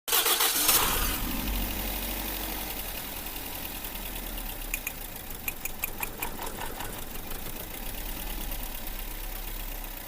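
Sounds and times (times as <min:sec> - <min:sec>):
car engine idling with misfire: 0:00.1 - 0:10.0.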